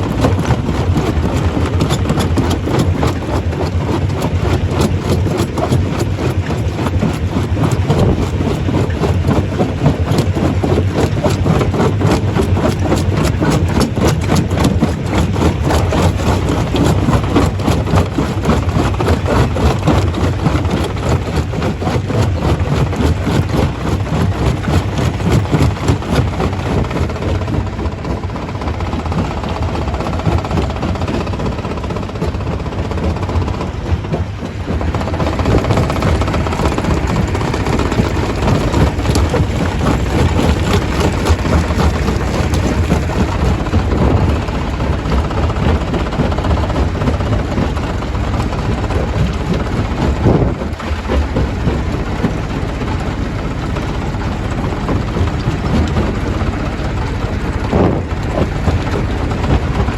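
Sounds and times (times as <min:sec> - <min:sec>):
rock rattling and knocking: 0:00.0 - 0:59.9
stone crusher rumbling: 0:00.0 - 0:59.9.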